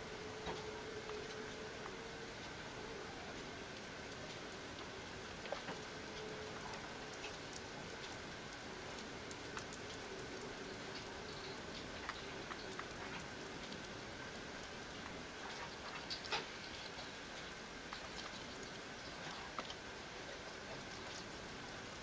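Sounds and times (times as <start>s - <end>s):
animals chewing and lapping food: 0.0s - 22.0s
faint steady hiss: 0.0s - 22.0s.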